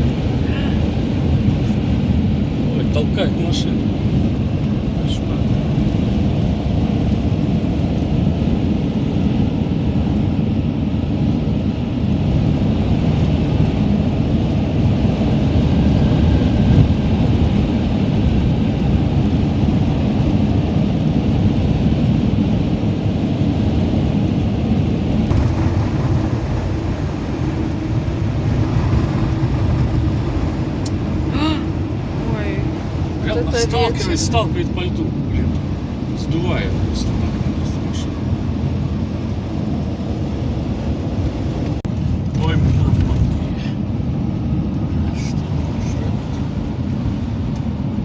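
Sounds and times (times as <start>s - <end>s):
road noise rumble: 0.0s - 48.0s
strong wind buffeting van: 0.0s - 48.0s.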